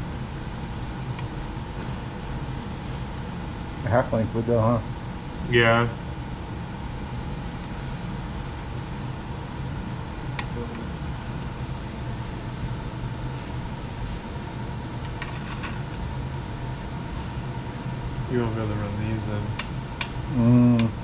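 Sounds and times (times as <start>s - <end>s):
fan hum: 0.0s - 21.0s.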